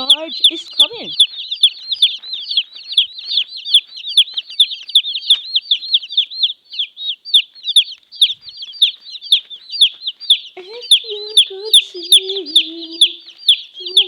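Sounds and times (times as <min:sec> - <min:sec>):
baby chicks peeping: 0:00.0 - 0:14.0.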